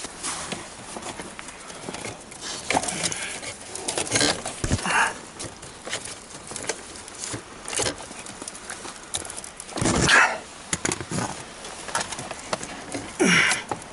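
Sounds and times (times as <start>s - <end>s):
hands working among plastic trim: 0.0s - 13.9s.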